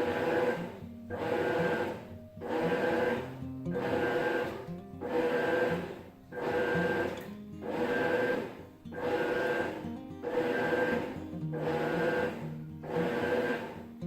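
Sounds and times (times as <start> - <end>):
washing machine agitating: 0.0 - 14.0.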